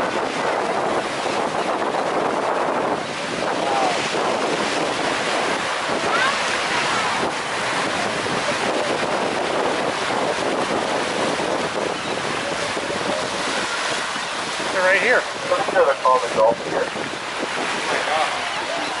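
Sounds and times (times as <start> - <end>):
sea water rushing: 0.0 - 19.0
wind buffeting microphone: 0.0 - 19.0.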